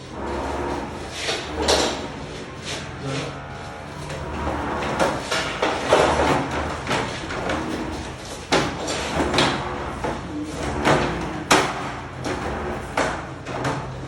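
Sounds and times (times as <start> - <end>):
knocks and scraping clatters: 0.0 - 14.0
steady low hum: 0.0 - 14.0.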